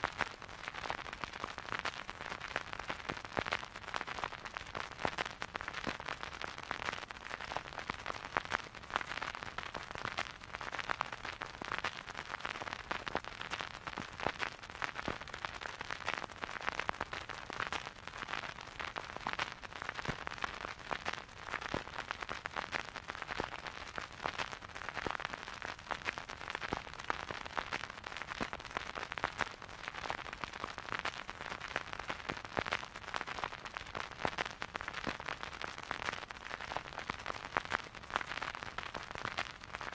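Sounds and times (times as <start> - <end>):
vinyl record crackle: 0.0 - 39.9.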